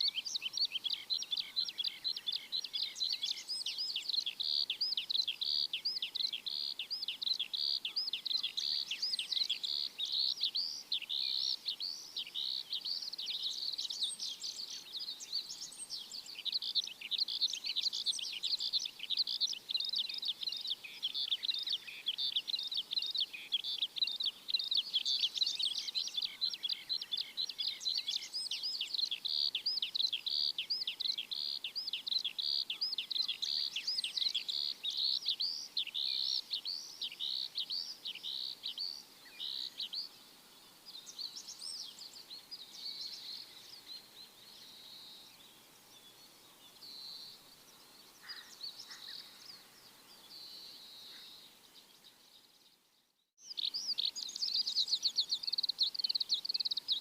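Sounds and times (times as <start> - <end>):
chorus of small birds chirping: 0.0 - 57.0.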